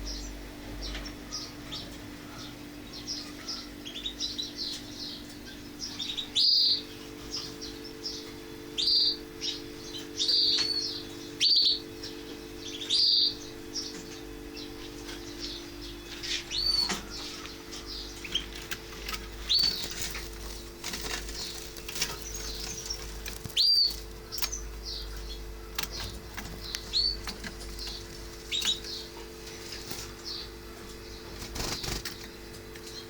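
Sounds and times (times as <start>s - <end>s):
canary chirping: 0.0s - 33.0s
steady low hum: 0.0s - 33.0s.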